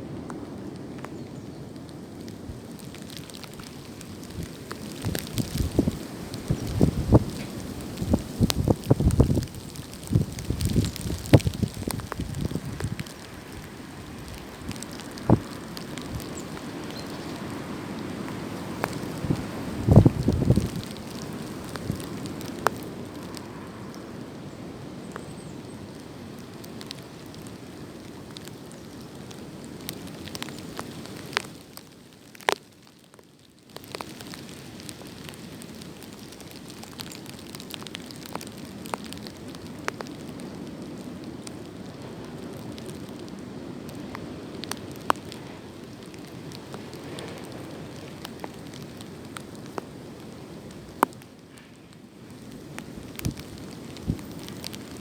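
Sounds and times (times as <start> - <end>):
rustling leaves and twigs: 0.0 - 55.0
wind gusting through branches: 0.0 - 55.0.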